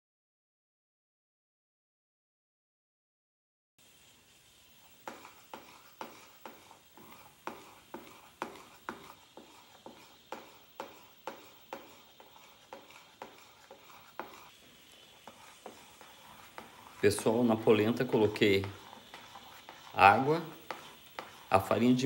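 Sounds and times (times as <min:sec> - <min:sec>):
metal spoon stirring polenta in pot: 0:03.9 - 0:22.0.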